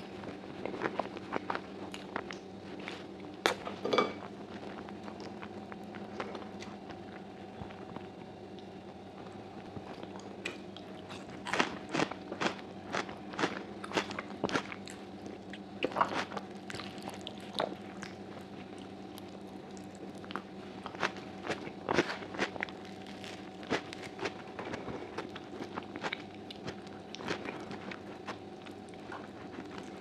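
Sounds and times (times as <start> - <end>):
chewing and crunching: 0.0 - 30.0
faint steady hum: 0.0 - 30.0.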